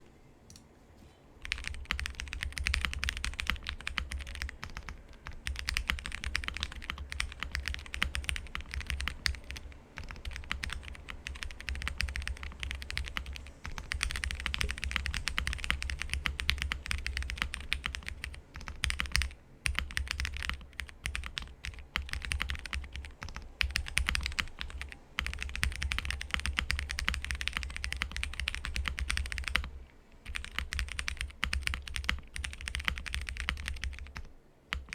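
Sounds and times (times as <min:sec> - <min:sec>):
typing on mechanical keyboard: 0:01.4 - 0:34.9.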